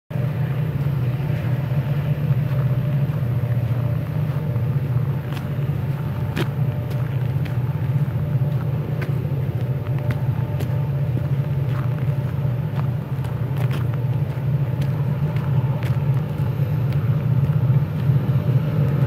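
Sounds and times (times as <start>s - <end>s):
low locomotive engine drone: 0.1s - 19.0s.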